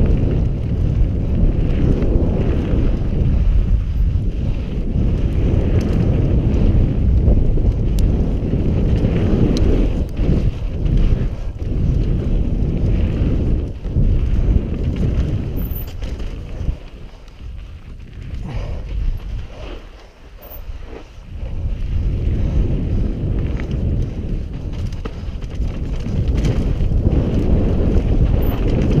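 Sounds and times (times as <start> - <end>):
bike tyres rumbling and rattling: 0.0 - 29.0
wind buffeting microphone: 0.0 - 29.0.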